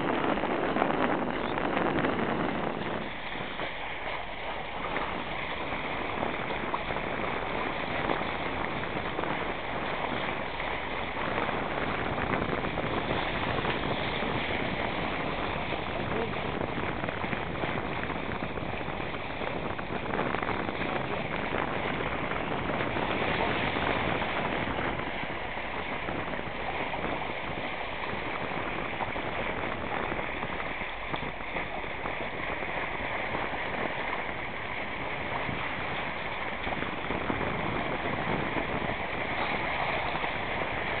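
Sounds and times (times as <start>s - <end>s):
water rushing along boat hull: 0.0s - 41.0s.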